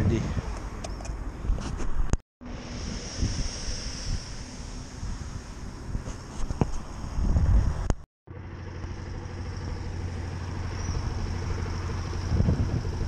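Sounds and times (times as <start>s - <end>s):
wind rumble: 0.0s - 8.0s, 8.9s - 13.0s.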